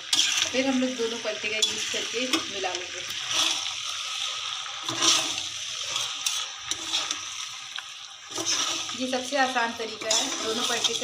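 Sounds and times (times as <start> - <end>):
sizzling scraping hiss: 0.0 - 11.0.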